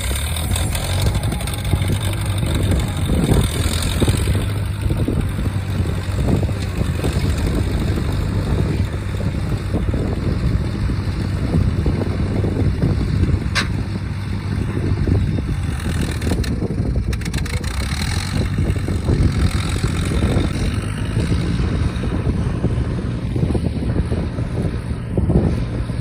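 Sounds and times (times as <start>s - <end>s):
gasoline engine running: 0.0s - 26.0s
wind buffeting microphone: 0.0s - 26.0s.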